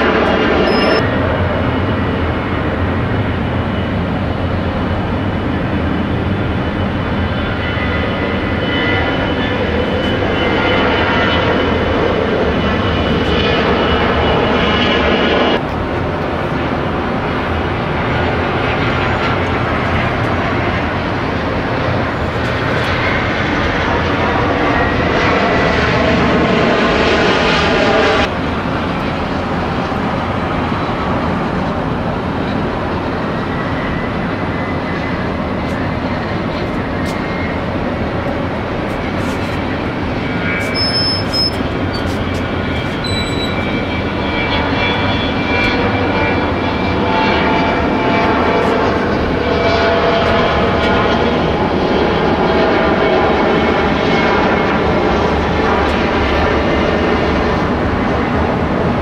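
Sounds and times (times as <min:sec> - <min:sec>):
jet engines roaring with whine: 0:00.0 - 0:59.0.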